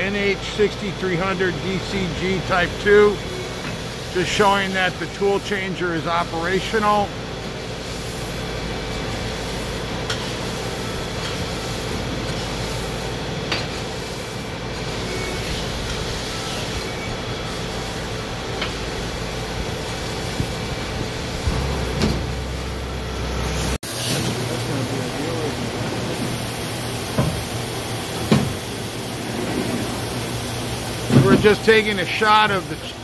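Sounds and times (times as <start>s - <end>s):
machine mechanical hum: 0.0s - 33.0s.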